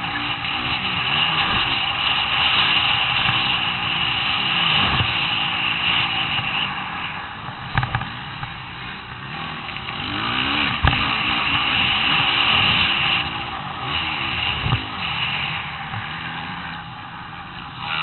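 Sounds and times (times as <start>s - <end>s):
motocross engine revving: 0.0s - 18.0s.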